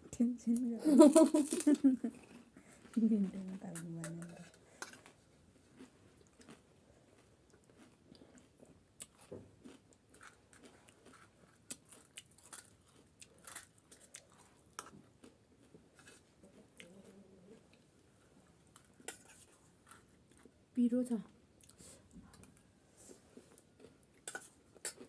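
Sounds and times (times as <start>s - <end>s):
close-up chewing: 1.2s - 20.6s, 21.6s - 25.0s.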